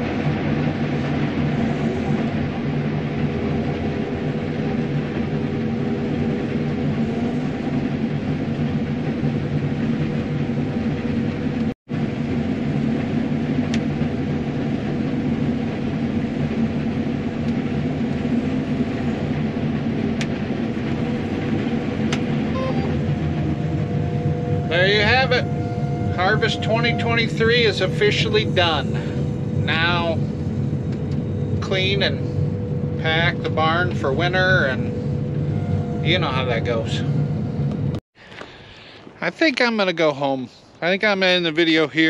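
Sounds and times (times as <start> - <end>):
combine harvester engine drone: 0.0 - 42.0.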